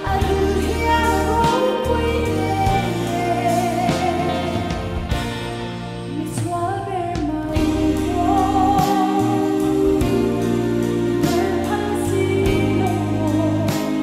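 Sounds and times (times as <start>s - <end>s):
woman singing into a microphone: 0.0s - 5.1s, 6.1s - 14.0s
bass and drums accompaniment: 0.0s - 14.0s.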